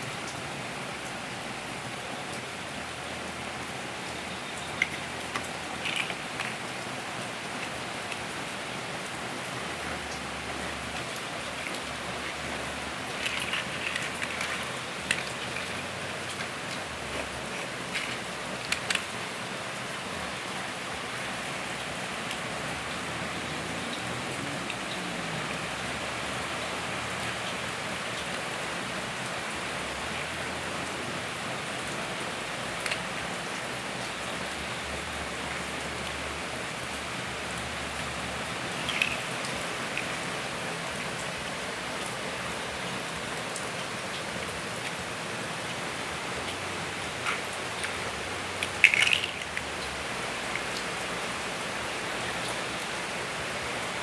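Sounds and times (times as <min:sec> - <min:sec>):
steady hiss like rain: 0:00.0 - 0:54.0.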